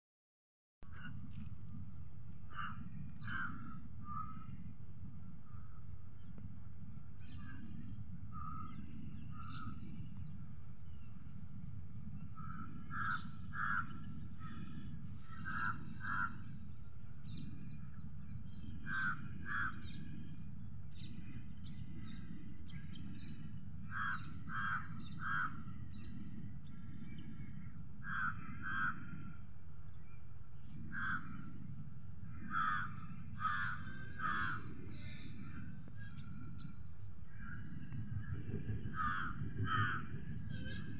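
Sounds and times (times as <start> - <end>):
steady low rumble: 0.8 - 40.9.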